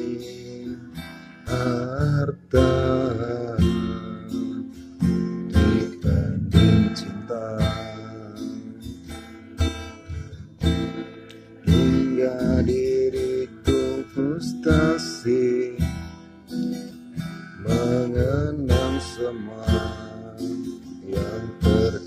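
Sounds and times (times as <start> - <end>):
strummed acoustic guitar music: 0.0 - 22.0.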